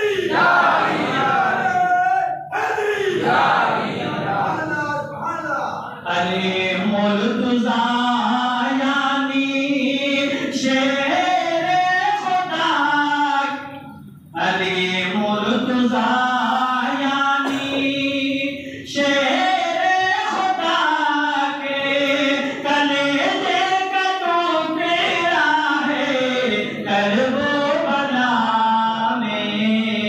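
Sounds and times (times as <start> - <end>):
man chanting: 4.0 - 30.0.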